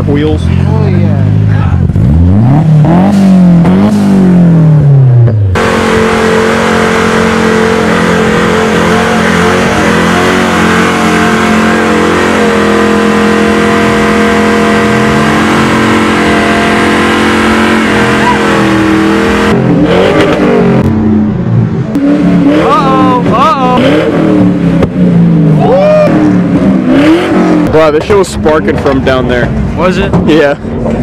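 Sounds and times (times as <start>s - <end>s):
car engine at high revs: 0.0s - 31.0s.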